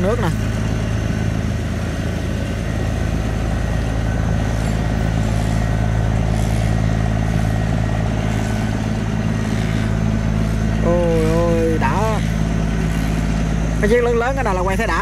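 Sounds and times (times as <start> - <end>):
barge diesel engine droning: 0.0 - 15.0
propeller wash churning water: 0.0 - 15.0.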